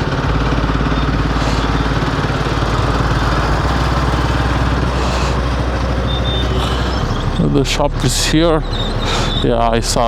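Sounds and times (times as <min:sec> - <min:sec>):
motorcycle engine running: 0:00.0 - 0:09.6
wind and road noise: 0:00.0 - 0:10.0.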